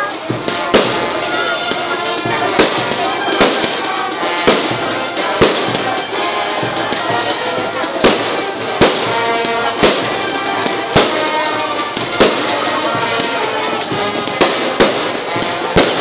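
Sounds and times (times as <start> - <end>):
fireworks banging: 0.0 - 16.0
music: 0.0 - 16.0.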